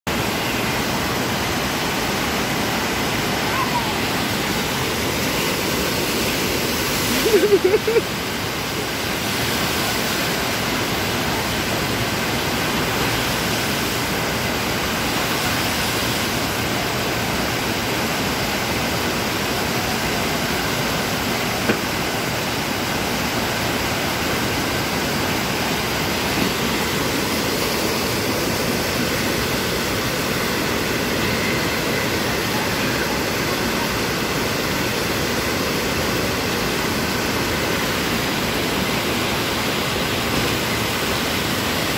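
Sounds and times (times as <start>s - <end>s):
rushing water spray: 0.1s - 41.9s.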